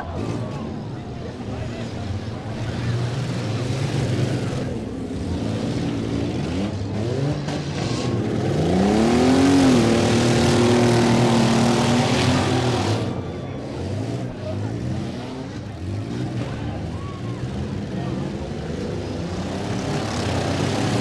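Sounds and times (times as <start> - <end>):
engine revving hard: 0.0 - 16.9, 17.6 - 21.0
vehicle engines running: 0.0 - 21.0.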